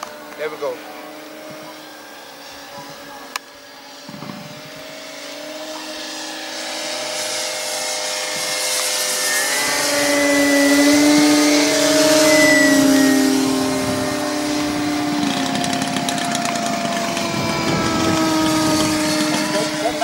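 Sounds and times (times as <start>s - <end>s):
model plane propellers whining: 0.0s - 20.0s.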